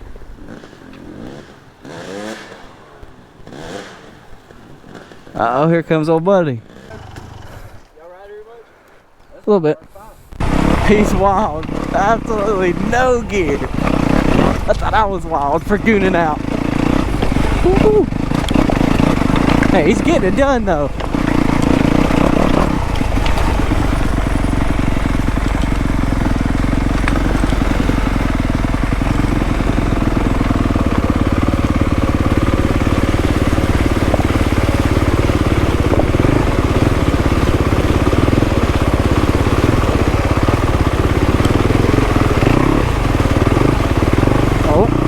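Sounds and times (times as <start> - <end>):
dirt bike engine idling: 0.0 - 8.9, 10.0 - 45.0.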